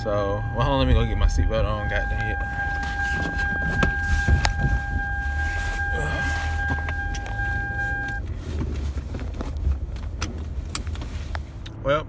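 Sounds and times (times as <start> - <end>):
seatbelt warning tone: 0.0 - 11.8
car engine idling: 0.0 - 12.0
clicks and rustles of movement: 0.5 - 11.8.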